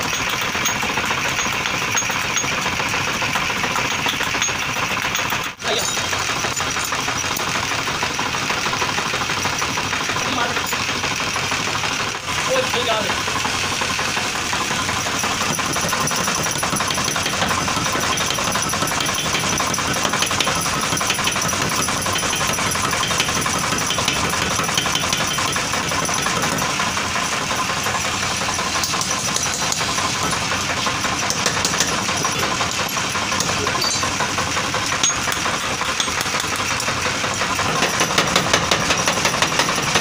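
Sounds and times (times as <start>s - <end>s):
power hammer striking hot iron: 0.0s - 40.0s.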